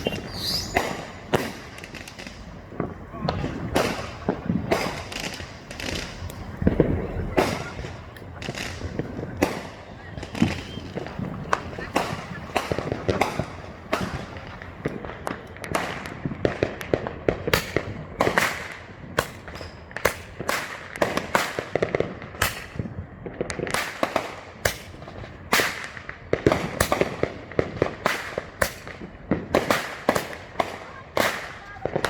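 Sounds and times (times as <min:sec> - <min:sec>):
fireworks bangs and pops: 0:00.0 - 0:32.0.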